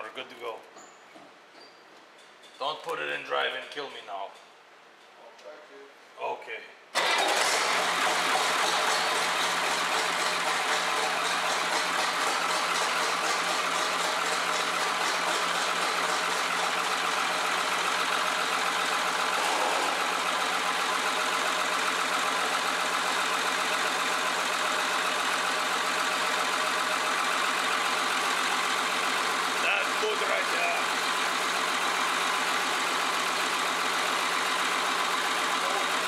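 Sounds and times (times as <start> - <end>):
diesel engine idling: 7.0 - 36.0.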